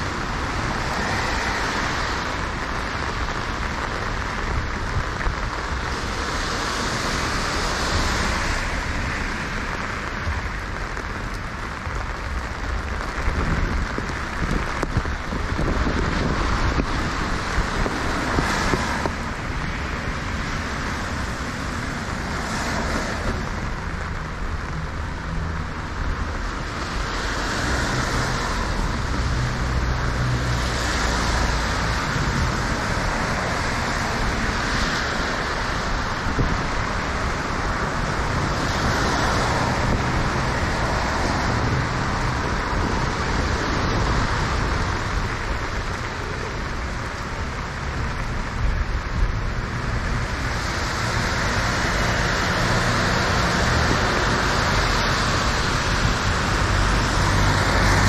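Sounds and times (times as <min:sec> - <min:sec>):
rain: 0:00.0 - 0:58.0
tyres hissing on wet pavement: 0:00.0 - 0:58.0
vehicle engine hum: 0:00.0 - 0:58.0.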